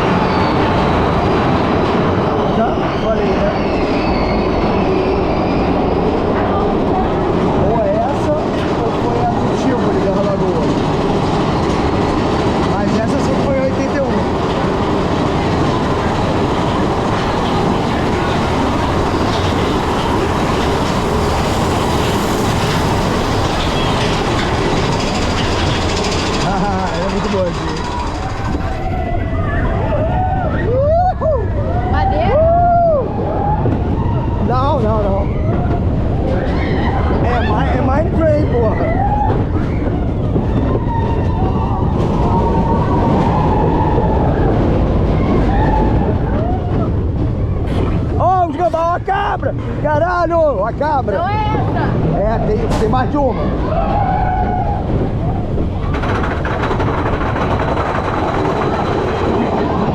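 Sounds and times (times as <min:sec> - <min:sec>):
coaster wheels on steel rail: 0:00.0 - 0:59.9.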